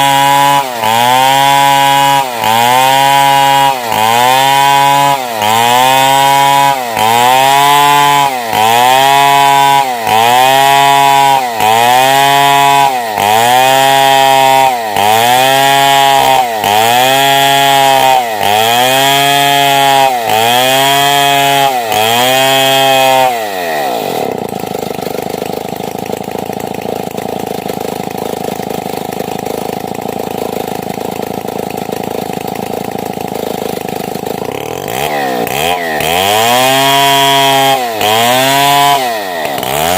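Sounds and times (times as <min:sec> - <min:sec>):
chainsaw cutting timber: 0:00.0 - 0:39.9
chainsaw idling: 0:00.0 - 0:39.9.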